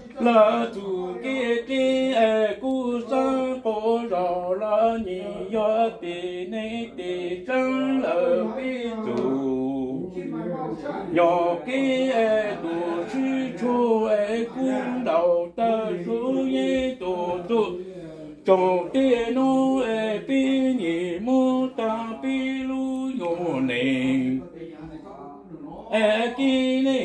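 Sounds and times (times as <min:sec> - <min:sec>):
man singing unaccompanied: 0:00.0 - 0:24.7, 0:25.8 - 0:27.0.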